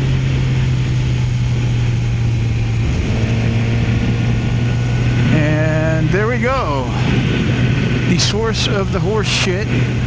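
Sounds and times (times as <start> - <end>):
motorcycle engine running: 0.0 - 10.0
road noise: 0.0 - 10.0
wind: 0.0 - 10.0.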